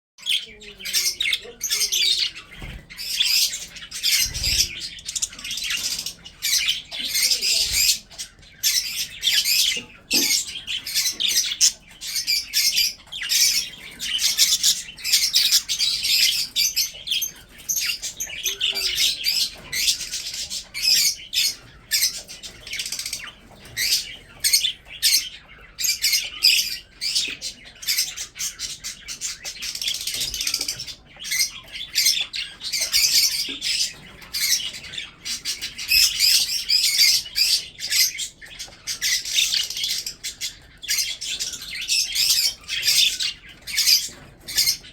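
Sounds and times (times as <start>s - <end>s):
budgerigars chattering and chirping: 0.2s - 44.9s.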